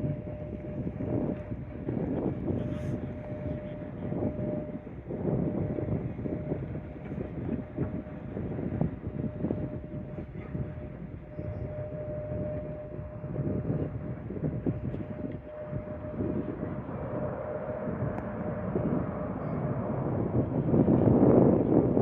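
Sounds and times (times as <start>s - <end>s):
aircraft engines rumbling and whining: 0.0s - 22.0s.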